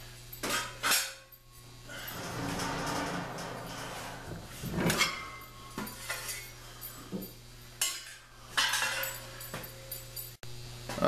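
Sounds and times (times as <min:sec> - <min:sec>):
metallic clinks and knocks: 0:00.3 - 0:10.4.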